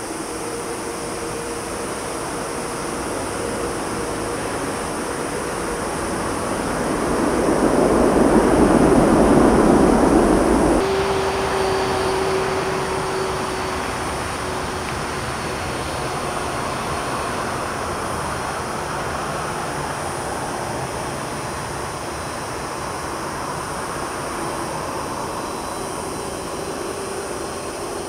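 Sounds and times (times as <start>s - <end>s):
jet engines humming at low power: 0.0s - 28.0s
jet engines roaring: 0.0s - 28.0s.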